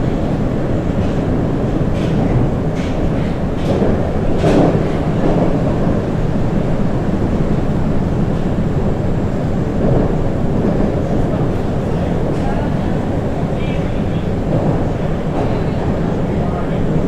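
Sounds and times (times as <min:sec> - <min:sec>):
metro wheels rumbling on rails: 0:00.0 - 0:17.0.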